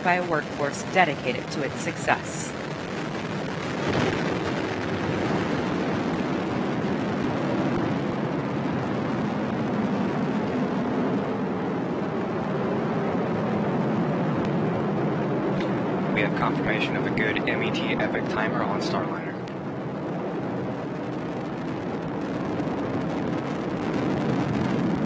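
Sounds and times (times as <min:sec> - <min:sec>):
rocket engine crackling rumble: 0:00.0 - 0:25.0.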